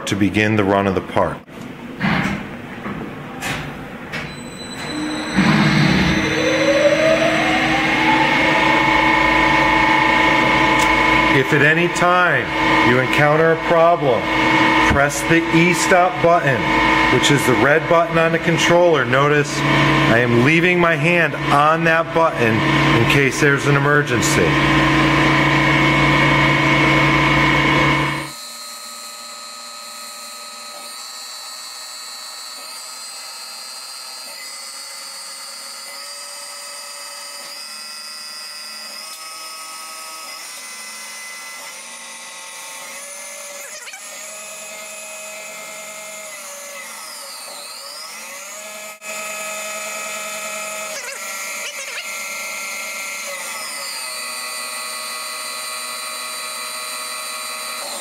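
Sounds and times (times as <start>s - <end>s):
lathe motor whine: 4.2s - 58.0s.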